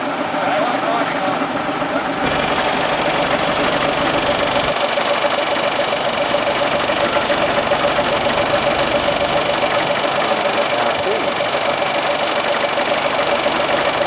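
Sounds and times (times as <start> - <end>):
engine running with knocking pulse: 0.0 - 14.0.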